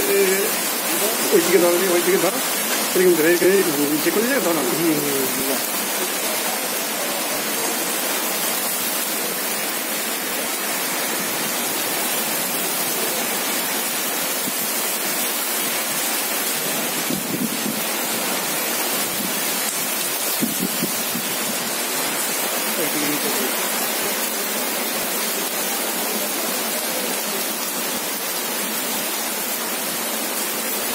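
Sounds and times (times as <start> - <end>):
rain falling steadily: 0.0 - 30.9.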